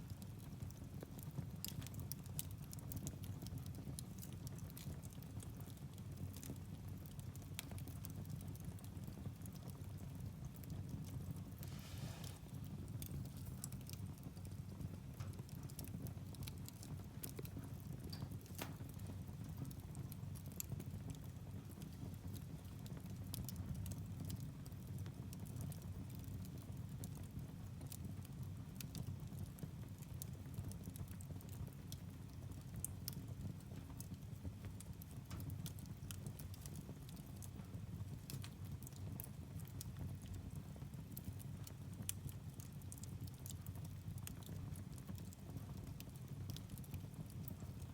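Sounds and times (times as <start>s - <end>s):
fire rumbling: 0.0s - 47.9s
logs crackling and popping: 0.1s - 47.9s.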